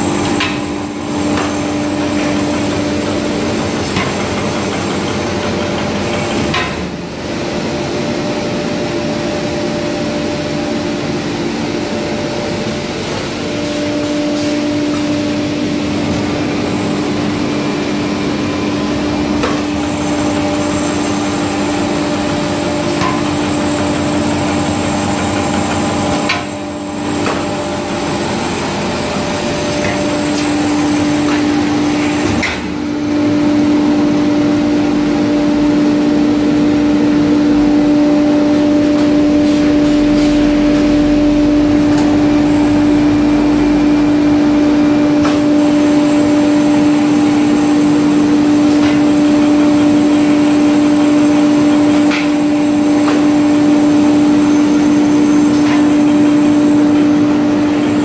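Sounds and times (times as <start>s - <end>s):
machine motor hum and whir: 0.0s - 58.0s.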